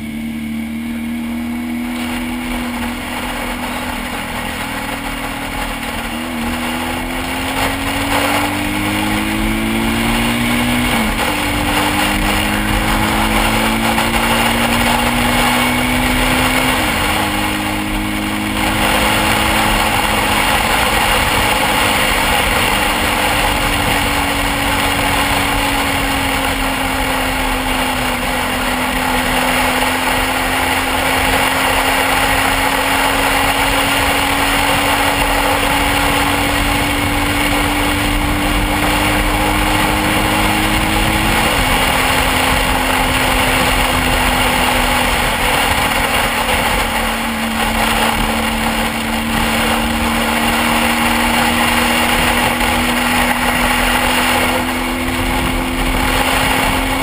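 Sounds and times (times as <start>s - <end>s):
dense rush of noise: 0.0s - 57.0s
motorcycle engine running: 0.0s - 57.0s.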